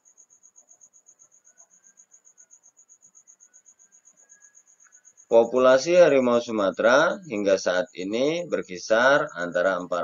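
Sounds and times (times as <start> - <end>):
faint insect chirping: 0.0 - 10.0.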